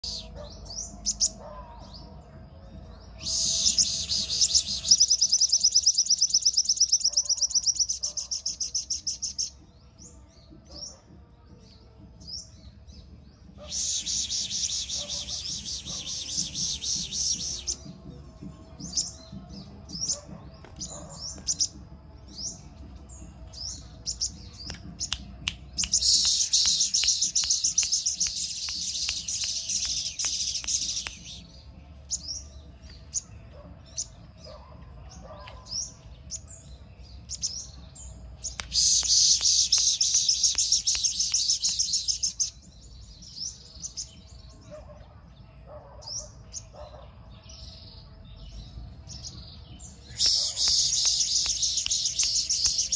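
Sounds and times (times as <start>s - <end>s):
bird chirping: 0.0s - 11.0s, 12.1s - 18.1s, 18.8s - 44.8s, 47.6s - 52.9s.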